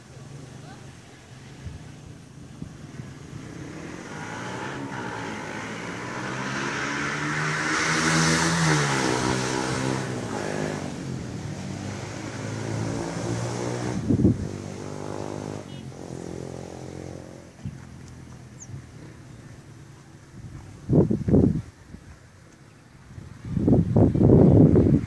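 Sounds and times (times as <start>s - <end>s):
vehicle engines passing by: 0.0s - 25.0s.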